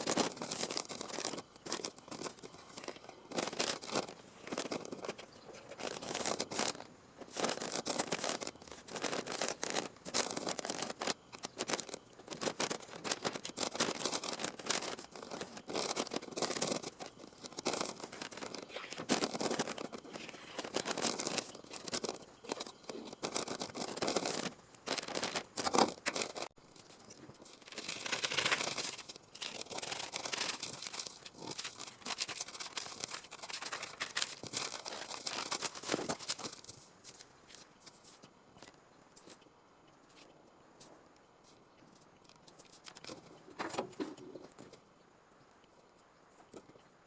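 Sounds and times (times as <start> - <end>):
sheet material rustling and crinkling: 0.0 - 39.4.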